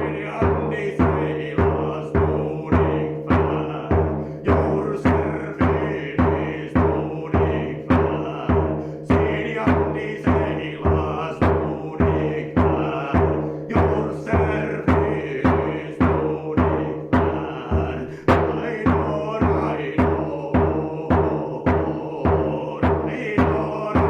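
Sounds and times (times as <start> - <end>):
frame drum beating: 0.0 - 24.0.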